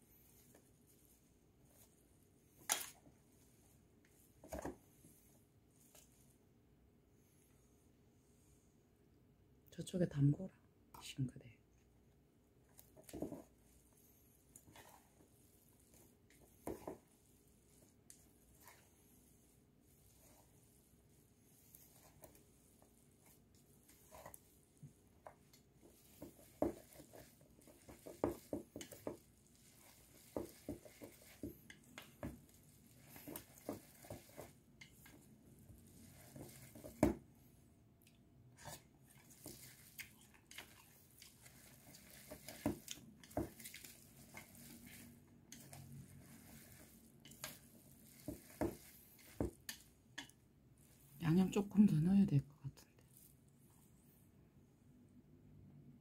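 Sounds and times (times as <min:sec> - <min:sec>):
wet noodles squishing: 0:00.0 - 0:08.0, 0:11.8 - 0:51.3.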